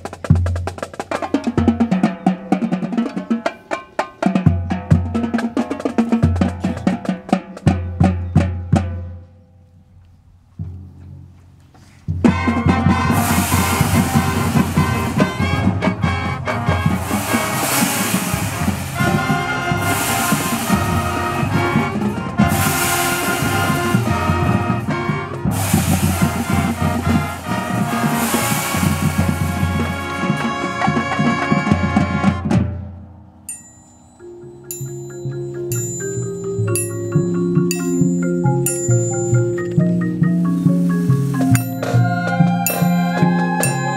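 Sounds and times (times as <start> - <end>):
marching band brass and percussion: 0.0 - 9.3, 12.1 - 43.9.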